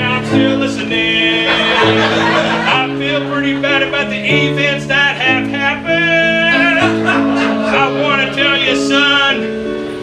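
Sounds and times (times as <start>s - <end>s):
person singing: 0.0s - 9.6s
keyboard playing held chords: 0.0s - 10.0s.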